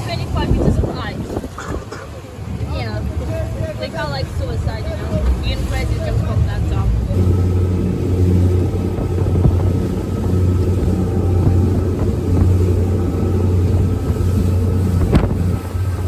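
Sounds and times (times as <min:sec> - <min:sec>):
speedboat engine humming: 0:00.0 - 0:16.0.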